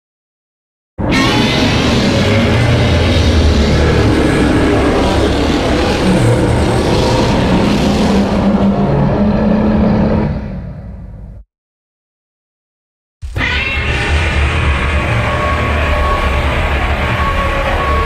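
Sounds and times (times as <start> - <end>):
loud dense rumbling: 1.0 - 11.4, 13.4 - 18.0.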